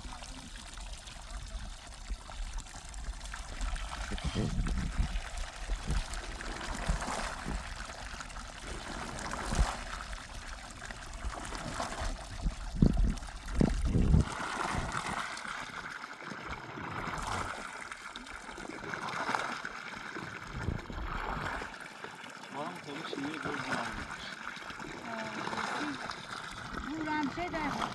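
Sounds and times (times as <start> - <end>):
water trickling: 0.0 - 27.9.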